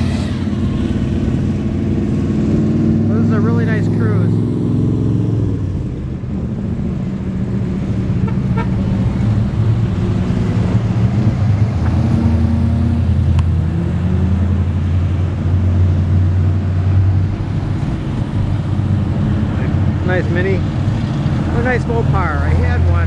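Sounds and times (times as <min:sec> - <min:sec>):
cars rolling past: 0:00.0 - 0:23.0.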